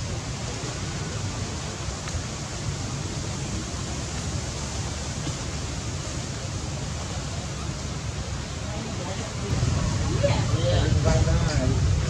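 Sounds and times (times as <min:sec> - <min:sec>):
low fluttering rumble: 0:00.0 - 0:12.0.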